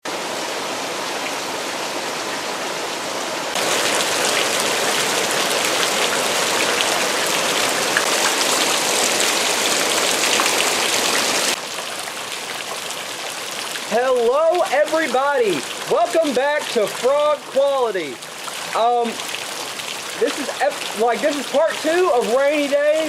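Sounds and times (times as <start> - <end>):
heavy rain falling: 0.1 - 23.0.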